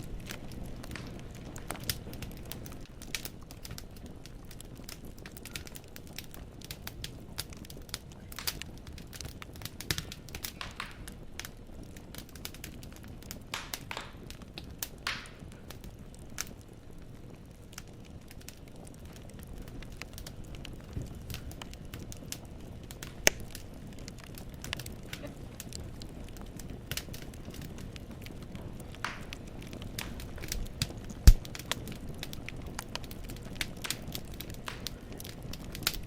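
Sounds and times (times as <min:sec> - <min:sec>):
logs popping and snapping: 0:00.0 - 0:16.7, 0:17.7 - 0:36.0
low rush of flame: 0:00.0 - 0:36.0.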